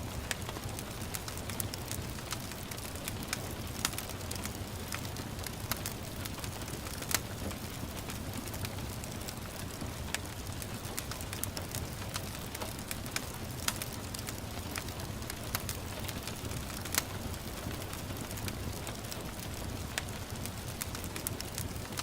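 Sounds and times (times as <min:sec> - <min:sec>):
gentle rain: 0:00.0 - 0:22.0
wood fire crackling and popping: 0:00.0 - 0:22.0.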